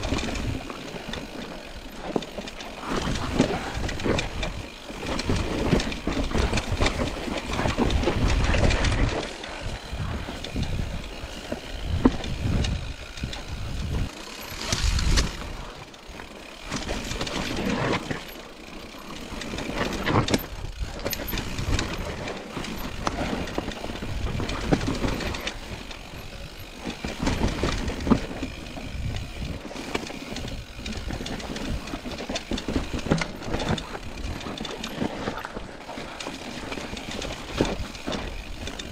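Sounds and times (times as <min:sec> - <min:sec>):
bike rattling and clattering: 0:00.0 - 0:38.9
bike tyres on stones: 0:00.0 - 0:38.9.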